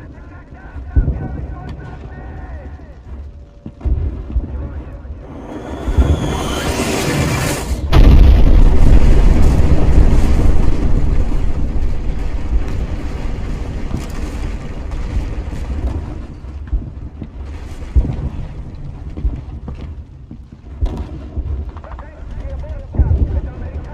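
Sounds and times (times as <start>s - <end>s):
large explosion with rumble: 0.8s - 2.6s, 3.8s - 20.1s, 20.7s - 23.9s.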